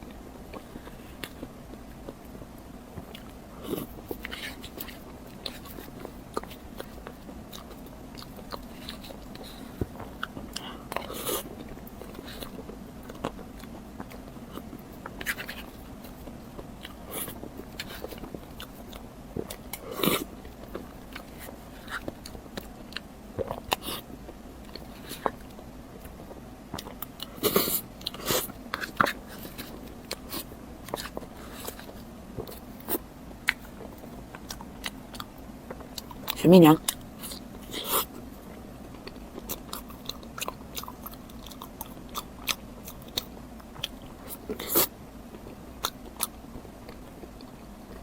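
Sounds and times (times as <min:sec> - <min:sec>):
biting and chewing: 0:00.0 - 0:48.0.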